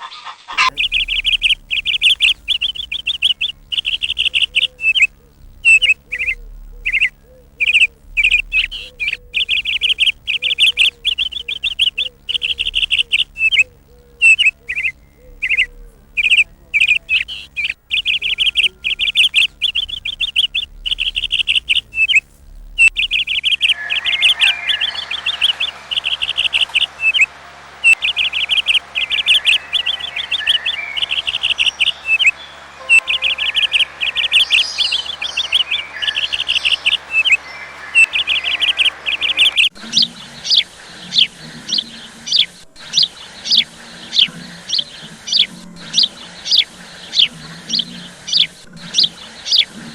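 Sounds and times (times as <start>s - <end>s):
steady background hiss: 0.4s - 49.9s
small songbird chirping: 0.6s - 49.9s.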